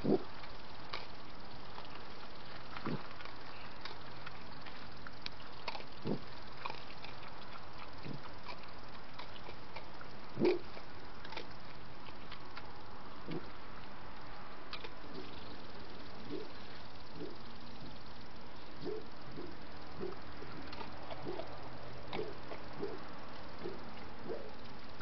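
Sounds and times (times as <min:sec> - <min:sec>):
trail camera hiss: 0:00.0 - 0:25.0.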